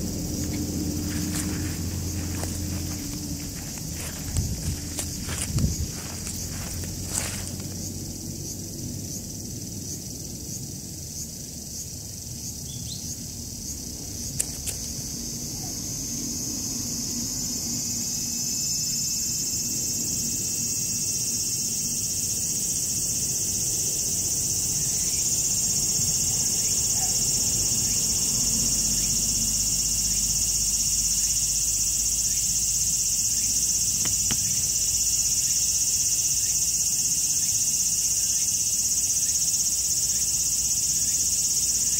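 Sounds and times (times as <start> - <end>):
insects shrilling: 0.0 - 41.9.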